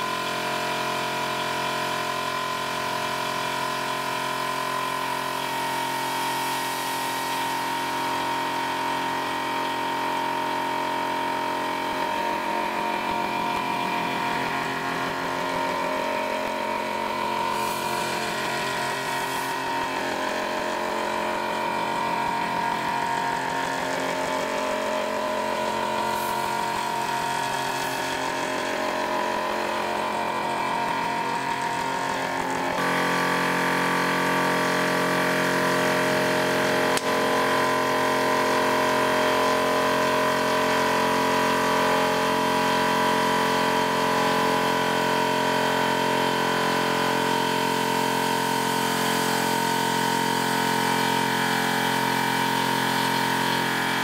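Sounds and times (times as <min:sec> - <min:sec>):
milling machine spindle whine: 0:00.0 - 0:54.0.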